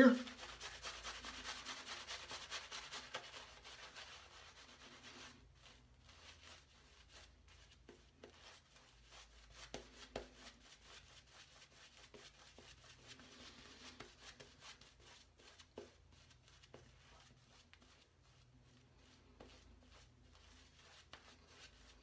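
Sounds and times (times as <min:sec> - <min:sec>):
shaving brush swishing lather: 0:00.0 - 0:22.0.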